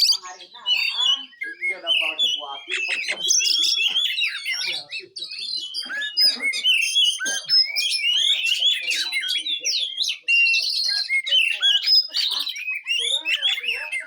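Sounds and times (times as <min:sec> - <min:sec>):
bird singing varied whistles: 0:00.0 - 0:14.0.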